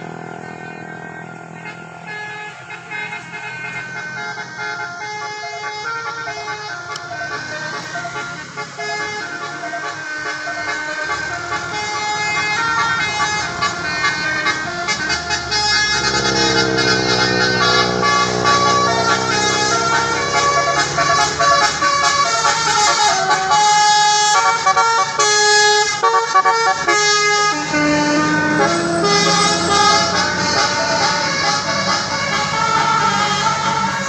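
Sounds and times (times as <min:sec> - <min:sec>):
bus engine droning: 0:00.0 - 0:34.0
bus horn playing a melody: 0:00.0 - 0:34.0.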